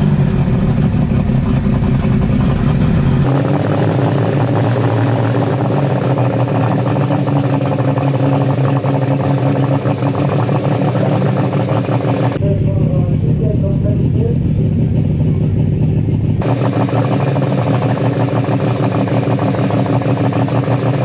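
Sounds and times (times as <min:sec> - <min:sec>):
pulling tractor engine running: 0:00.0 - 0:21.0.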